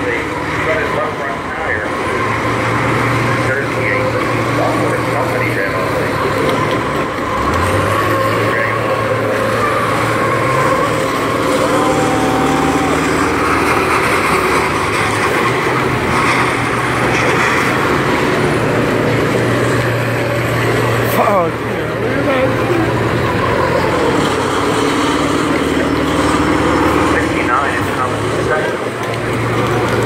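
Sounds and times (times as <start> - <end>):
bus engines droning: 0.0 - 30.0
track noise: 0.0 - 30.0.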